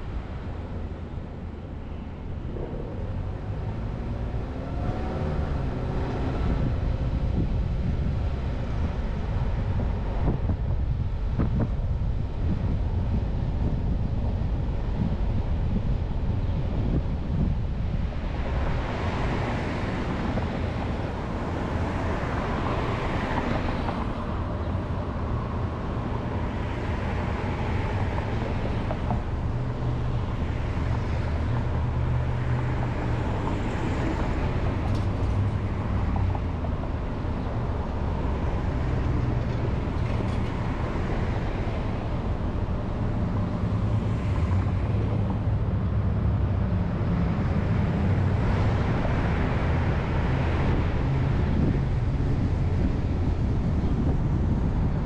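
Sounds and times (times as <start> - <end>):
car engine and tyre hum: 0.0 - 55.0.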